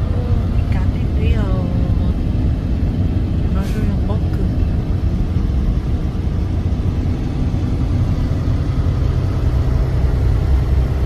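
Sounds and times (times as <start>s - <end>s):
road noise: 0.0s - 11.0s
truck engine running: 0.0s - 11.0s.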